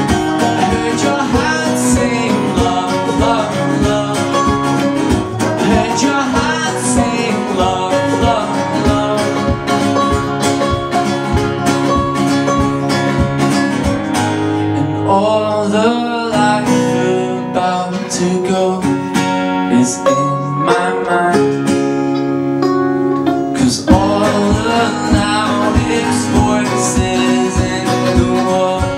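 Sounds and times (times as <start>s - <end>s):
man singing: 0.0s - 10.8s, 14.6s - 22.2s, 23.4s - 28.9s
picked banjo: 0.0s - 28.9s
strummed acoustic guitar: 0.0s - 28.9s.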